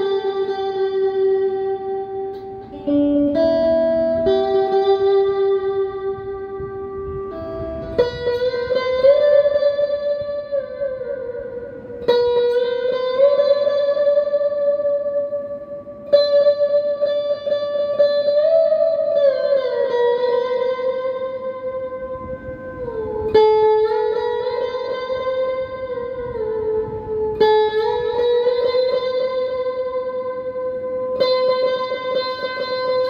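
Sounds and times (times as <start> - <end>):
lap steel guitar slide melody: 0.0 - 33.0.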